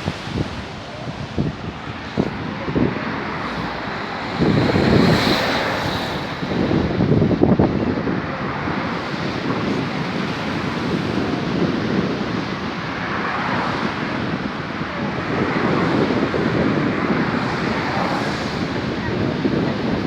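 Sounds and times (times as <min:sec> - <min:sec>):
sea waves on shore: 0:00.0 - 0:20.0
wind buffeting microphone: 0:00.0 - 0:20.0.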